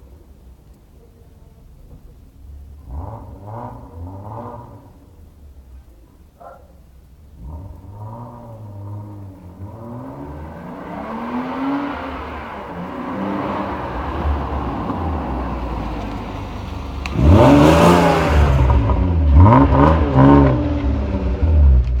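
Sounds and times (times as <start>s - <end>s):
car engine revving: 2.6s - 5.8s, 7.2s - 22.0s.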